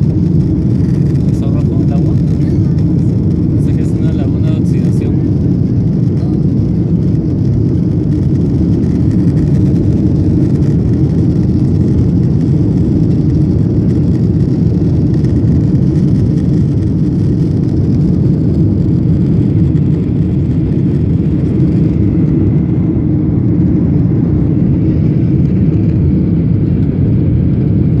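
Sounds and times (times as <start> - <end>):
jet cabin engine rumble: 0.0 - 28.0.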